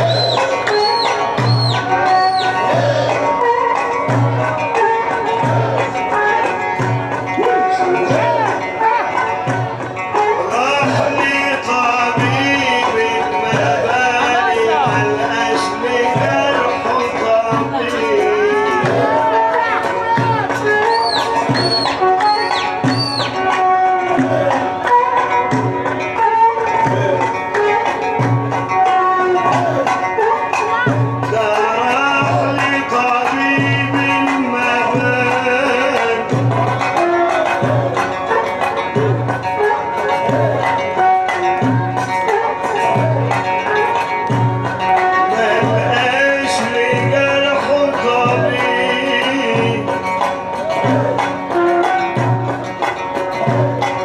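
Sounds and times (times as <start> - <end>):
hand drums beating: 0.0 - 54.0
ornamented sliding melody: 0.0 - 54.0.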